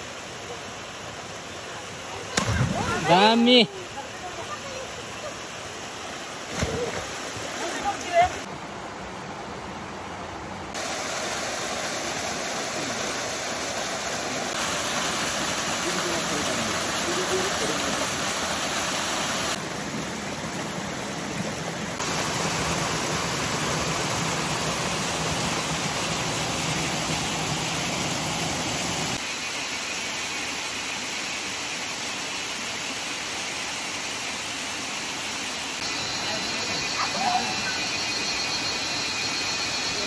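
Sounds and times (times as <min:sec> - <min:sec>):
waterfall rushing: 0:00.0 - 0:08.5, 0:10.7 - 0:29.2, 0:33.2 - 0:40.0.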